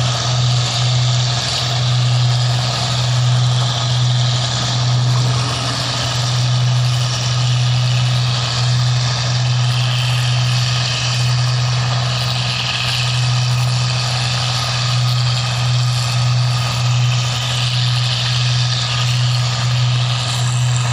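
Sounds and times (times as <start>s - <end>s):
machine engine droning: 0.0s - 20.9s.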